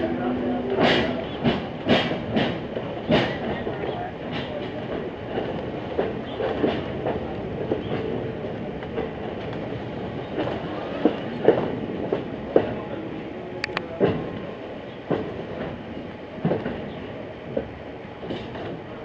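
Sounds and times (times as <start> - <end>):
train car rumbling on track: 0.0 - 19.0.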